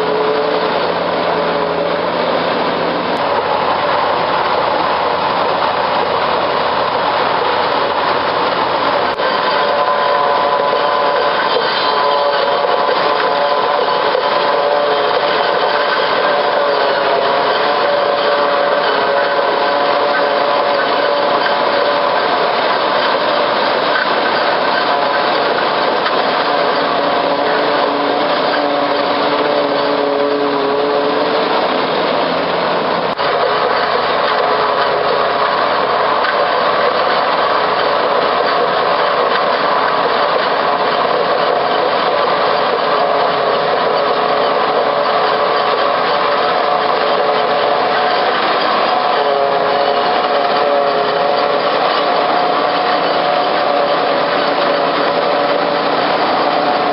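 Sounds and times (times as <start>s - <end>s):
harvesting machine droning: 0.0s - 56.9s.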